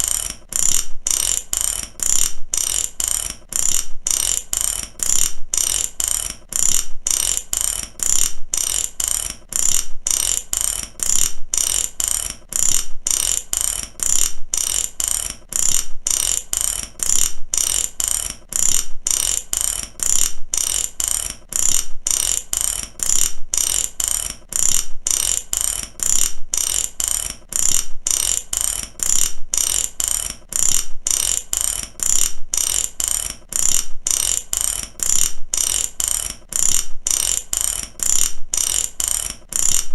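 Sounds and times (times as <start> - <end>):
ratchet wrench clicking: 0.0 - 39.9.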